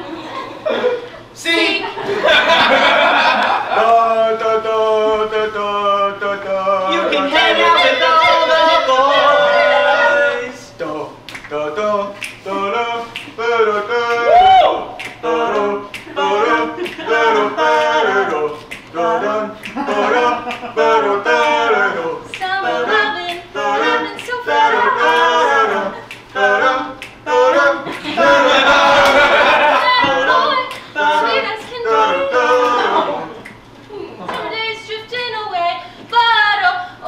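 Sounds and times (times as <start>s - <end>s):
a cappella group singing: 2.2s - 37.0s.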